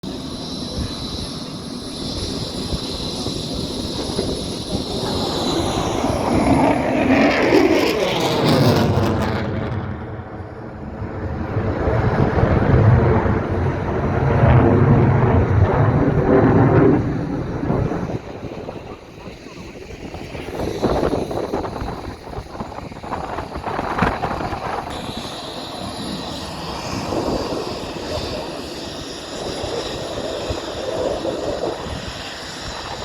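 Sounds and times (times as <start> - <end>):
jet engine roar: 0.0 - 33.0
heavy low rumble: 0.1 - 31.1.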